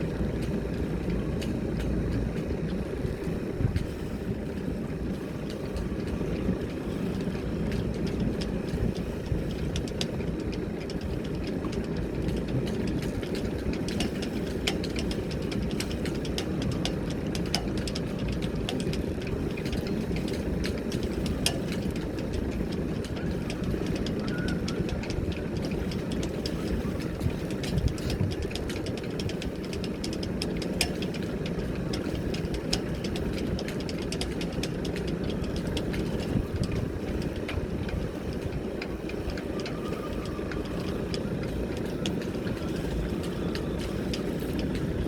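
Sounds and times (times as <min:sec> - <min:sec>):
boat engine idling: 0:00.0 - 0:45.0
light clicks and knocks: 0:00.1 - 0:45.0.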